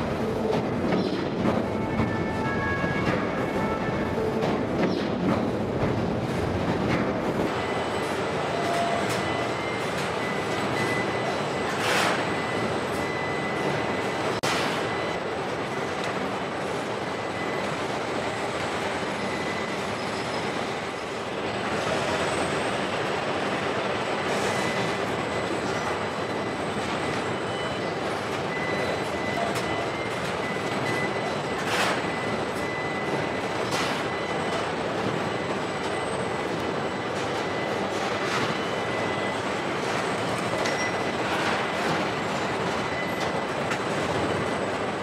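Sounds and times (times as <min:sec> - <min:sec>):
assembly line machinery noise: 0:00.0 - 0:45.0.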